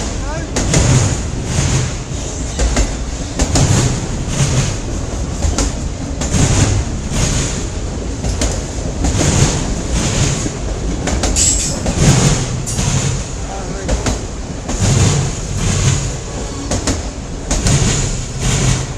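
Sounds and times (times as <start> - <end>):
freight train rumbling past: 0.0 - 18.9
wheels clicking over rail joints: 0.0 - 18.9.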